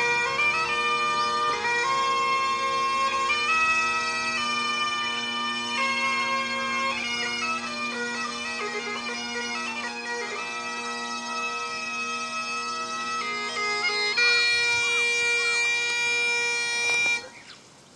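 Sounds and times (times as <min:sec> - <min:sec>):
bagpipes playing: 0:00.0 - 0:17.6.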